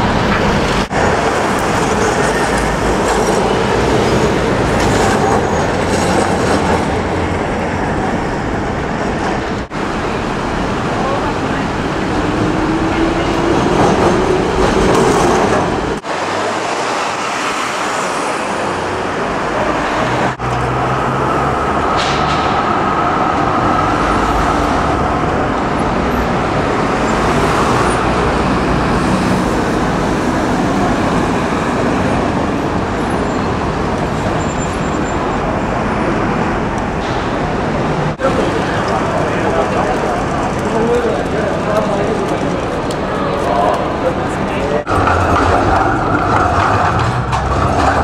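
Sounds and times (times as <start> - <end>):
car and bus engines: 0.0 - 48.0
trams passing: 0.0 - 48.0.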